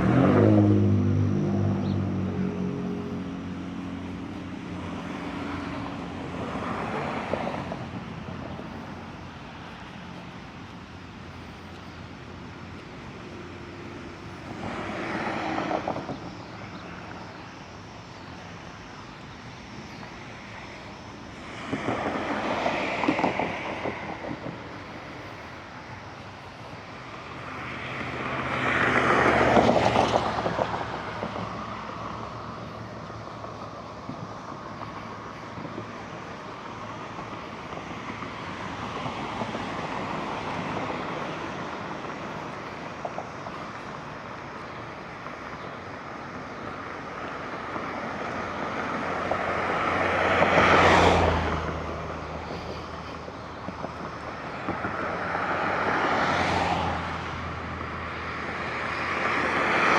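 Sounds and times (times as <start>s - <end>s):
cars passing by: 0.0s - 59.9s.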